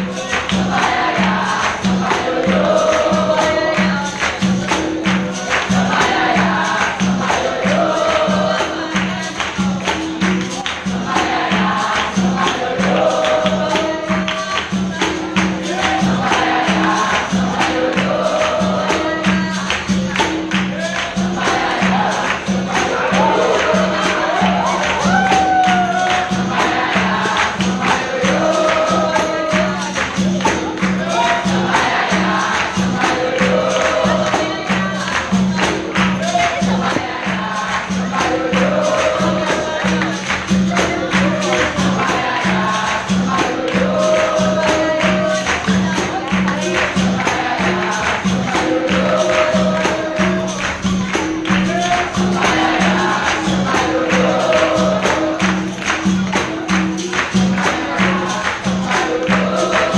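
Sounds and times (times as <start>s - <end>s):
group singing: 0.0s - 59.9s.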